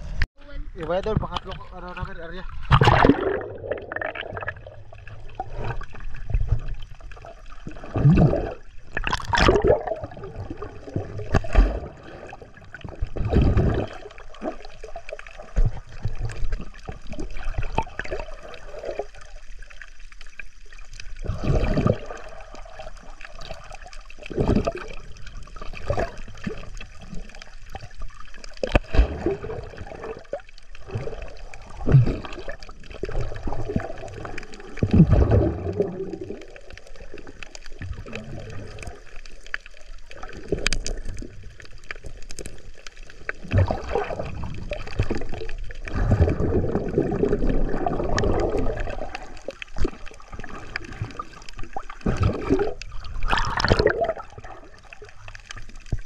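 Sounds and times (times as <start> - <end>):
seawater splashing and sloshing: 0.9 - 56.0.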